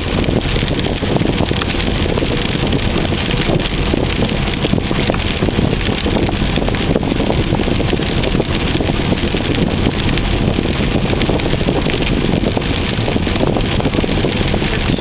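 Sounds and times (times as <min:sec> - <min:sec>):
rain pattering on a car: 0:00.0 - 0:15.0
road rumble inside a car: 0:00.0 - 0:15.0.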